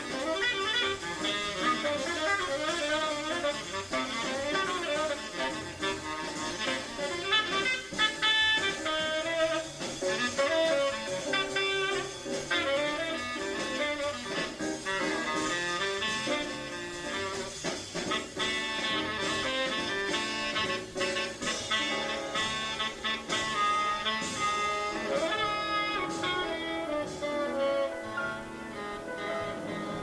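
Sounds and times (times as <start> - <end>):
jazz rhythm section: 0.0 - 30.0
saxophone playing fast lines: 0.0 - 30.0.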